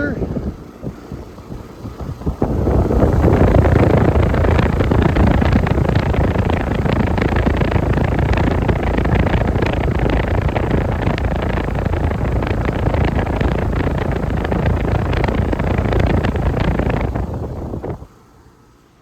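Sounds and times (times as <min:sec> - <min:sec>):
compressor rumbling: 0:00.0 - 0:19.0
condenser fan blowing air: 0:00.0 - 0:19.0.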